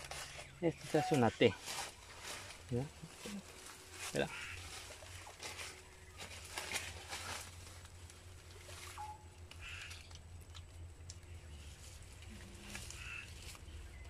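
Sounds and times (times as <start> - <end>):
bird calling: 0.0 - 7.3, 8.8 - 10.2, 11.2 - 14.0.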